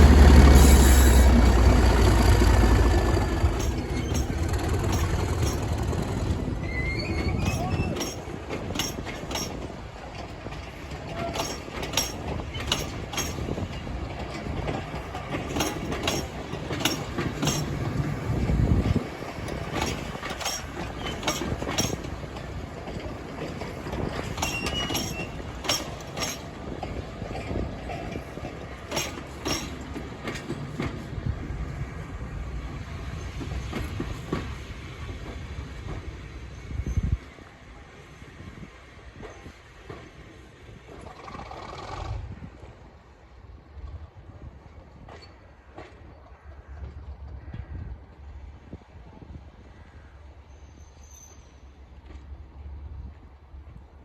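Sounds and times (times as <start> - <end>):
train wheels clicking over rail joints: 0.0 - 43.0, 44.4 - 48.9
steady low train rumble: 0.0 - 54.0.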